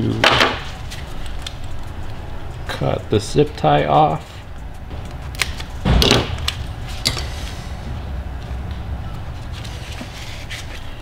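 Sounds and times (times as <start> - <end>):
steady low hum: 0.0 - 11.0
wires rustling: 0.6 - 11.0.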